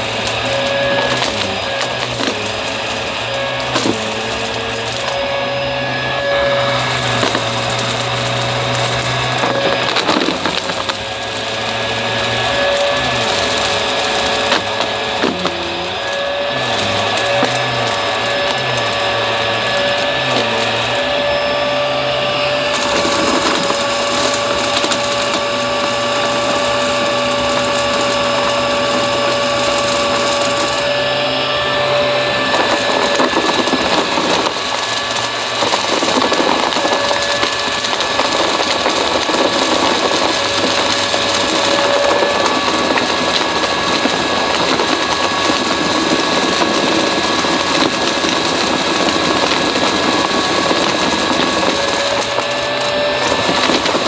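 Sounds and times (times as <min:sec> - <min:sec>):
debris clicks and crackles: 0:00.0 - 0:05.2, 0:06.3 - 0:21.2, 0:22.6 - 0:30.8, 0:32.4 - 0:54.0
vacuum cleaner motor whine: 0:00.0 - 0:54.0.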